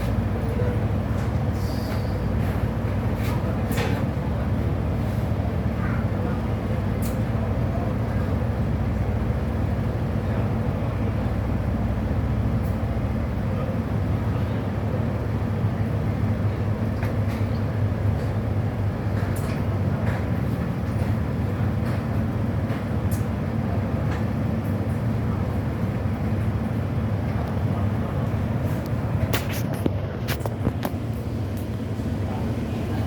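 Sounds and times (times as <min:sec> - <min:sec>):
diesel engines droning: 0:00.0 - 0:33.0.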